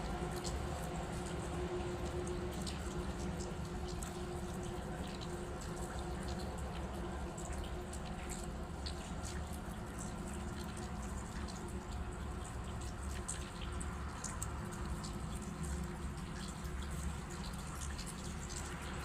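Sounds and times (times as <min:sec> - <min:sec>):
small splashes and drips: 0:00.0 - 0:19.0.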